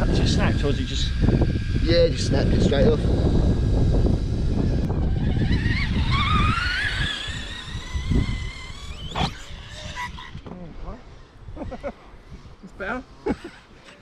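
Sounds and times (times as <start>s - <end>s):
low rumbling noise: 0.0s - 13.3s
electric toy car motor whining: 0.0s - 14.0s.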